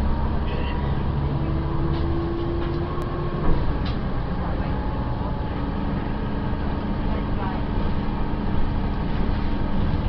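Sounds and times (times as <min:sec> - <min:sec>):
bus diesel engine drone: 0:00.0 - 0:10.0
road noise: 0:00.0 - 0:10.0.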